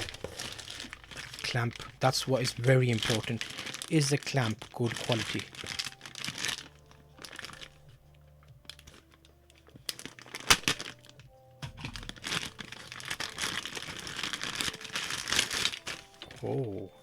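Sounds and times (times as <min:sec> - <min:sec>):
plastic packaging crinkling: 0:00.0 - 0:16.9.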